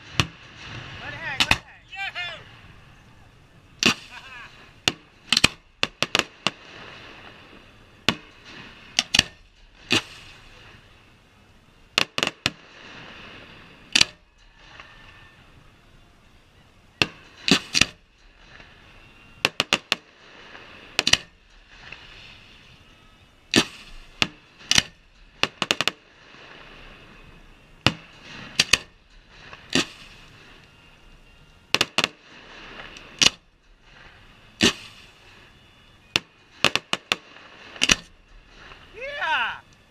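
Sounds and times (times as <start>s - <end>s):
fireworks bangs: 0.0s - 3.0s, 3.7s - 11.0s, 17.0s - 39.7s
hissing haze: 0.0s - 39.9s.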